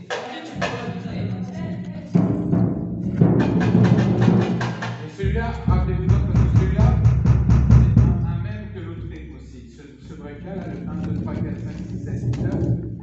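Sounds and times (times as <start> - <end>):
deep bass drums: 0.6 - 13.0.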